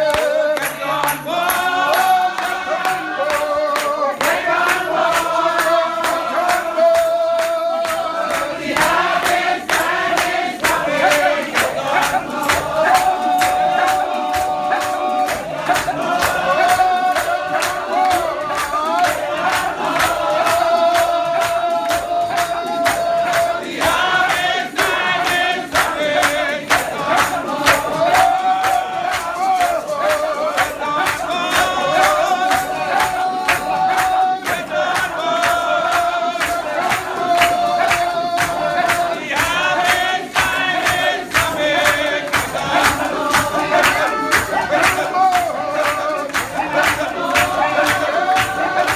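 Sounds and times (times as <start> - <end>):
congregation singing a hymn: 0.0 - 48.9
hand percussion beat: 0.0 - 48.9
people clapping: 0.0 - 48.9.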